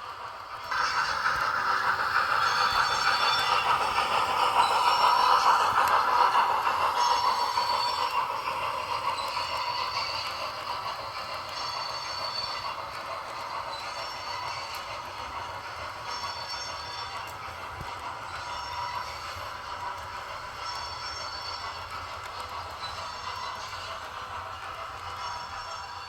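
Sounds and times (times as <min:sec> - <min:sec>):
model train wheels clattering: 0:00.0 - 0:26.0.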